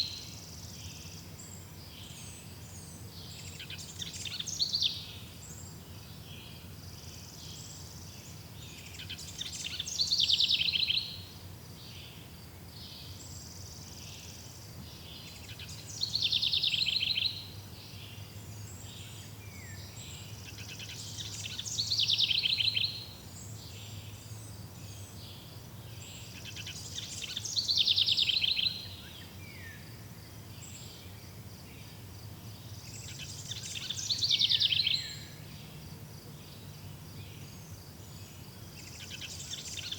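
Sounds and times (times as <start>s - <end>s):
forest ambience: 0.0s - 39.9s
songbird singing: 0.0s - 39.9s.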